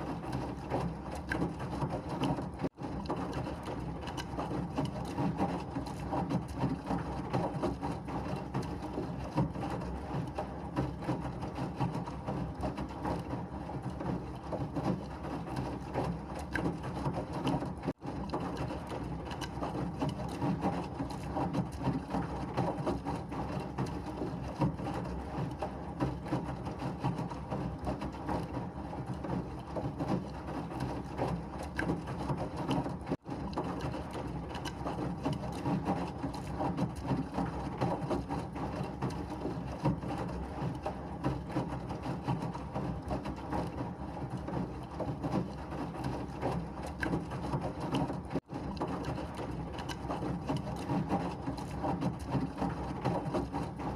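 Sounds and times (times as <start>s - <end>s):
washing machine running: 0.0s - 53.9s.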